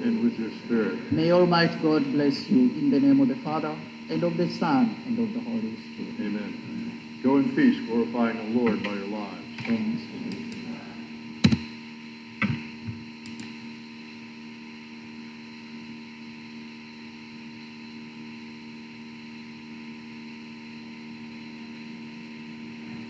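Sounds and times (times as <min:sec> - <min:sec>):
sound system hum and hiss: 0:00.0 - 0:23.0.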